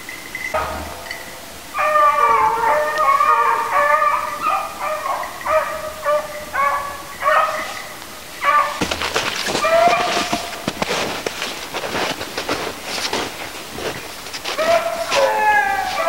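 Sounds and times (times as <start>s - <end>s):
hounds baying: 0.6s - 16.0s.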